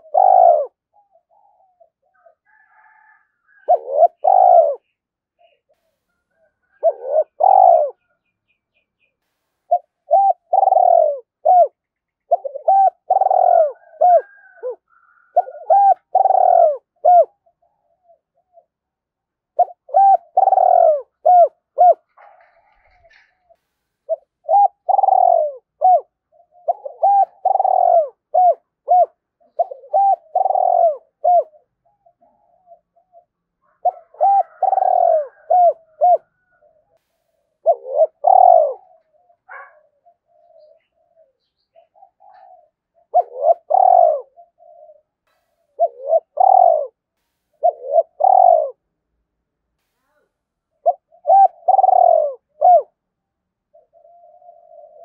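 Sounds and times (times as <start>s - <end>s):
dove cooing: 0.0s - 8.3s, 9.7s - 49.0s, 50.0s - 55.0s.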